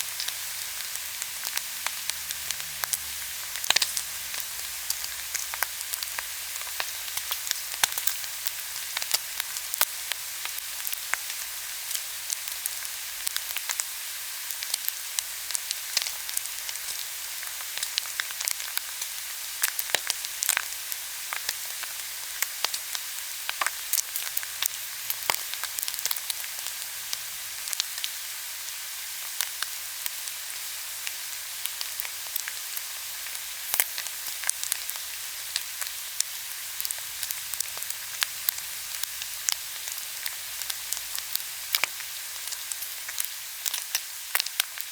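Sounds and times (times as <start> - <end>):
pork belly sizzling on a grill: 0.0 - 44.9.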